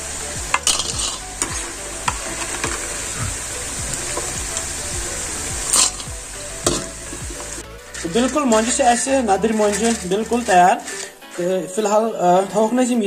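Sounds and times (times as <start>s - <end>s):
strainer scraping pan: 0.0s - 12.1s
oil sizzling: 0.0s - 12.8s.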